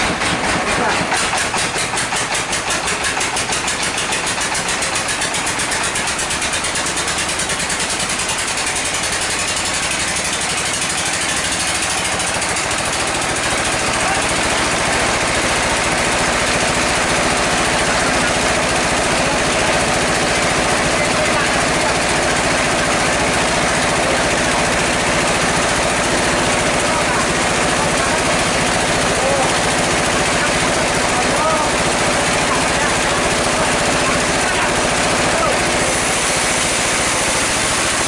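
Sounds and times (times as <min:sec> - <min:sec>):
sawmill engine running: 0:00.0 - 0:38.0.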